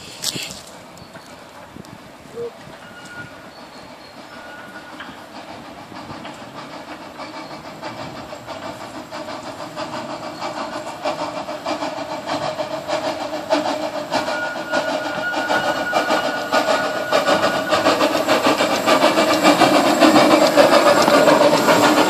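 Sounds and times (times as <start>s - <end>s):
steam locomotive exhaust beats: 0.0s - 22.0s.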